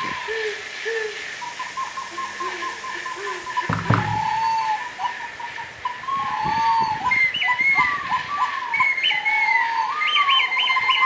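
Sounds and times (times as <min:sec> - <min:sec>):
whistle bird-like calls: 0:00.0 - 0:11.0.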